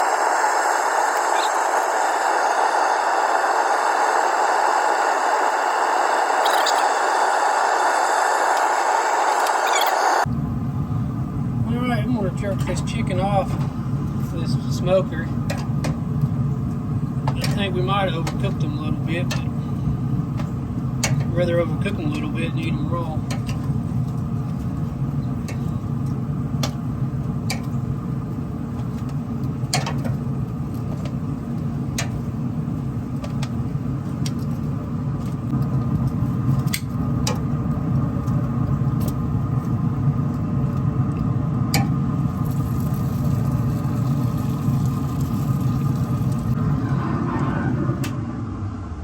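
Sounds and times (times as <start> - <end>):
low mechanical rumble with hum: 0.0 - 49.0.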